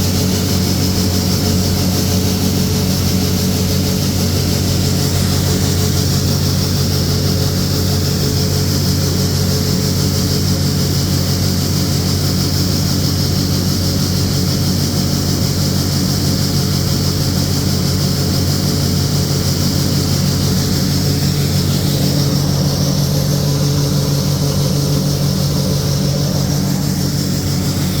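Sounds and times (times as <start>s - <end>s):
combine harvester engine hum: 0.0s - 28.0s.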